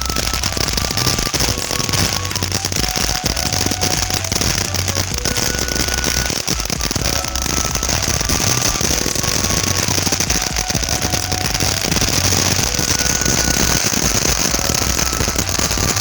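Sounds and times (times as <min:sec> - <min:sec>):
firework hissing and crackling: 0:00.0 - 0:16.0.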